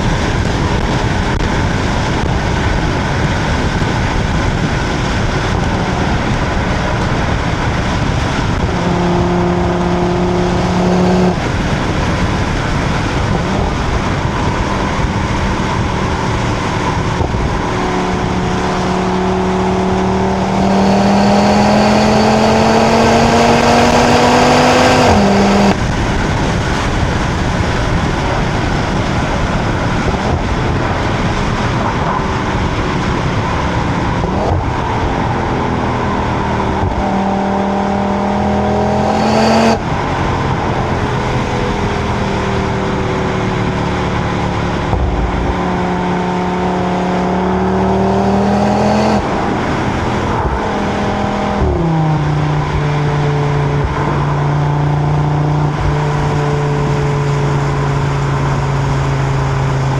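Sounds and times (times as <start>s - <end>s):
car exhaust note: 0.0s - 59.9s
tyre and wind roar: 0.0s - 59.9s.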